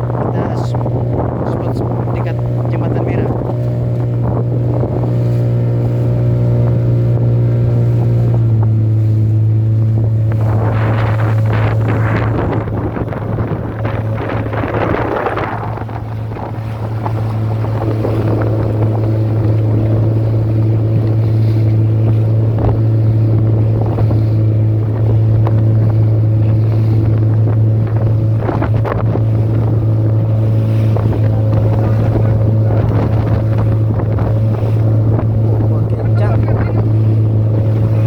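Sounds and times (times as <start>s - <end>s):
motorboat engine droning: 0.0s - 38.0s
wind buffeting microphone: 0.0s - 38.0s.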